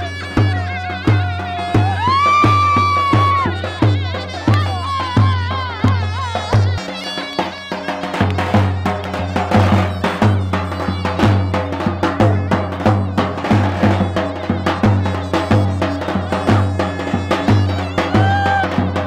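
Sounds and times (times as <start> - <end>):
background music with percussive beat: 0.0 - 19.0.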